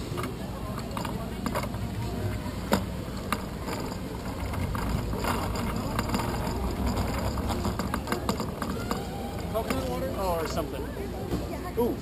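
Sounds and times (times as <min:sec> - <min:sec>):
bicycle rolling over paving stones: 0:00.0 - 0:10.9
small clicks and rattles: 0:00.1 - 0:10.7.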